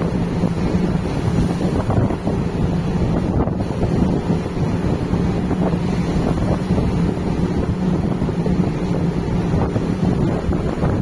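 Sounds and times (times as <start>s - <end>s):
low drone from ship: 0.0s - 11.0s
water rushing along hull: 0.0s - 11.0s
wind buffeting microphone: 0.0s - 11.0s.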